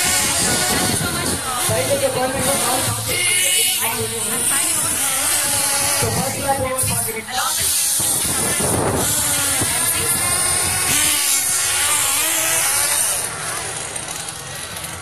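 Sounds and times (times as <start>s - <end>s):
small motors buzzing: 0.0s - 15.0s.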